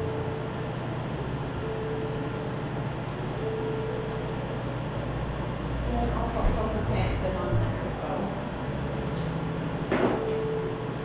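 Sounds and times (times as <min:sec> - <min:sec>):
cooling machine blowing air: 0:00.0 - 0:11.0
faint beeping tone: 0:00.0 - 0:11.0.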